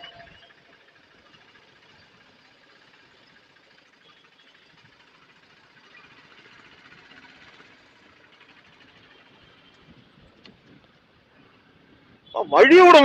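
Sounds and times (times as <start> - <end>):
motorcycle engine ticking over: 0.0 - 11.6.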